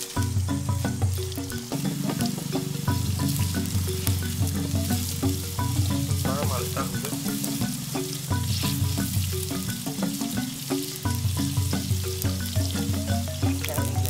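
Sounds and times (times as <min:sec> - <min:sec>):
background music with steady beat: 0:00.0 - 0:14.0
tofu sizzling in hot oil: 0:00.1 - 0:05.8, 0:07.3 - 0:14.0.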